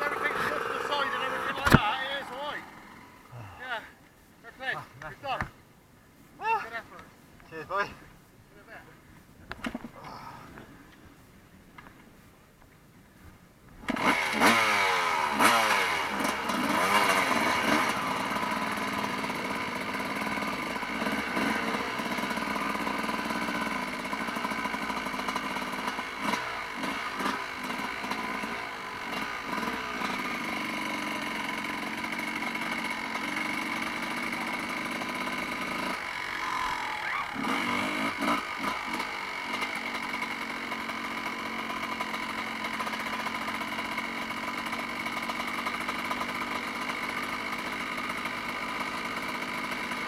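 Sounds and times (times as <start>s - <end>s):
motorcycle engine starting and revving: 0.0s - 4.0s, 13.8s - 50.0s.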